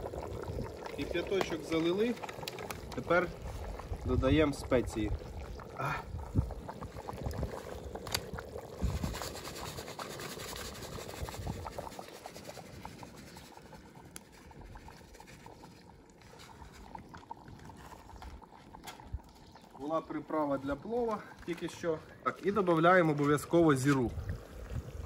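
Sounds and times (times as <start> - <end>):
water bubbling in pot: 0.0 - 25.0
wood fire popping and crackling: 0.0 - 25.0.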